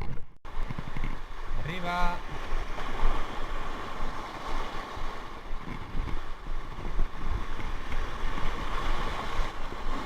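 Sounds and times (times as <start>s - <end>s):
rough sea: 0.0s - 10.0s
wind buffeting microphone: 0.0s - 10.0s.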